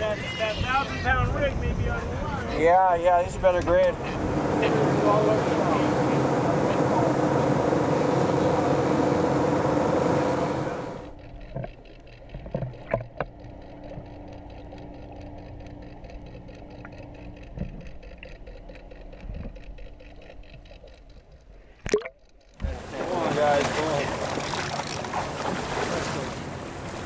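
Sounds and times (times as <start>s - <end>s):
underwater camera hum: 0.0s - 25.7s
boat and sea rushing: 0.0s - 27.0s.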